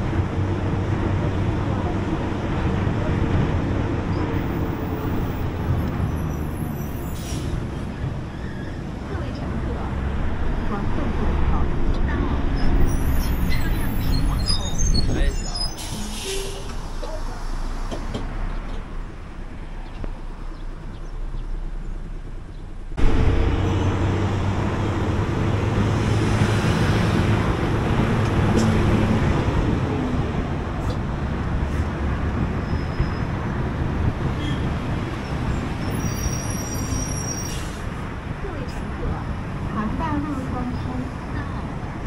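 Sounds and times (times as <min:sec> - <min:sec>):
bus engine hum: 0:00.0 - 0:42.0
road and traffic noise: 0:00.0 - 0:42.0.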